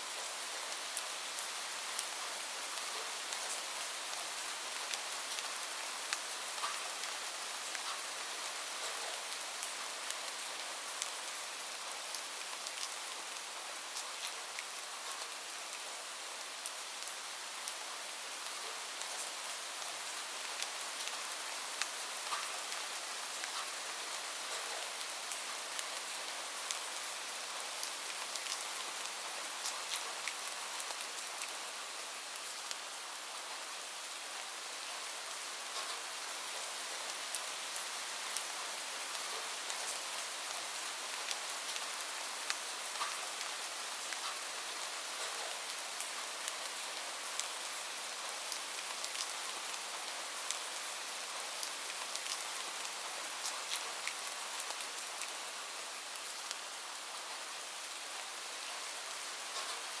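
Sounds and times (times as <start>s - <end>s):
steady rain: 0.0s - 60.0s
raindrops ticking on a surface: 0.1s - 32.9s, 35.0s - 60.0s.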